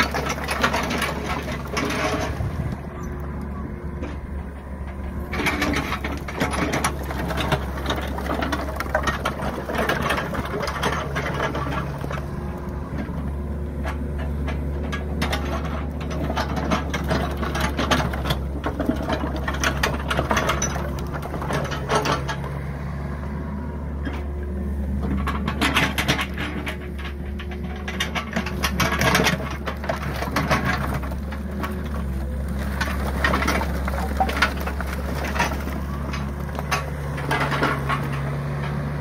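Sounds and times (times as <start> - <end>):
logs clattering and knocking: 0.0 - 22.6, 24.0 - 39.0
excavator diesel engine running: 0.0 - 39.0.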